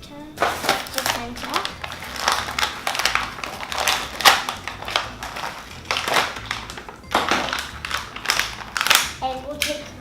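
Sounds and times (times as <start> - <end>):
background music: 0.0 - 10.0
plastic packaging crinkling: 0.4 - 9.7.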